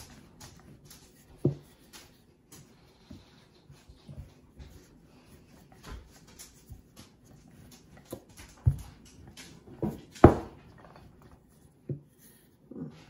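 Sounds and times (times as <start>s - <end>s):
rolling pin rolling dough: 0.0s - 13.0s
soft rustle: 0.0s - 13.0s.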